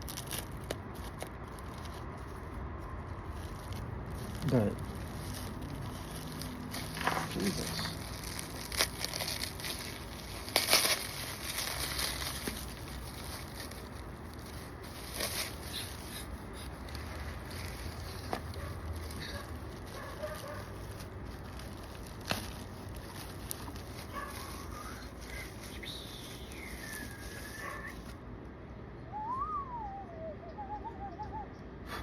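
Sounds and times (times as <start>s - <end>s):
packaging rustling and crinkling: 0.0s - 28.2s.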